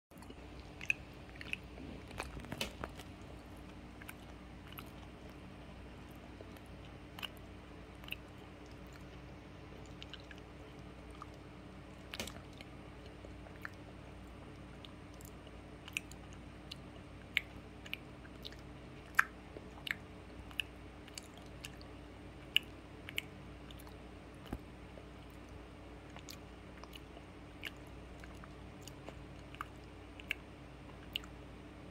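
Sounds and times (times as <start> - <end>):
steady low hum: 0.1 - 31.9
small dog chewing and licking: 0.2 - 31.4.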